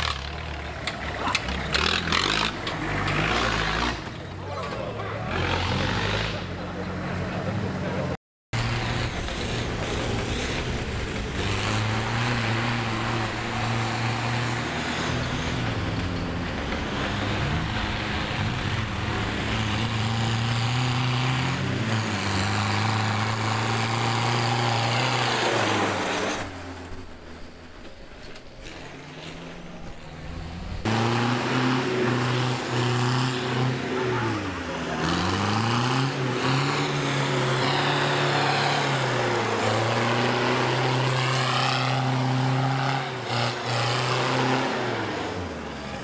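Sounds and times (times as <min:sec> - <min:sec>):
tractor engines revving: 0:00.0 - 0:46.0.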